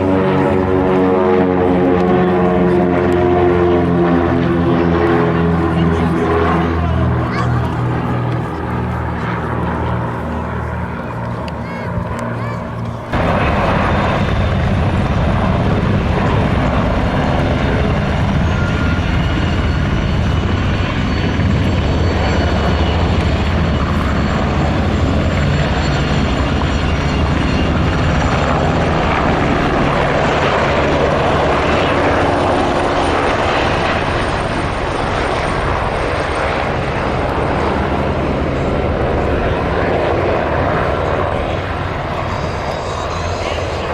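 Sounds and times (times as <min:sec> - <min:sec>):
helicopter rotor beat: 0:00.0 - 0:43.9
turbine whine: 0:00.0 - 0:43.9.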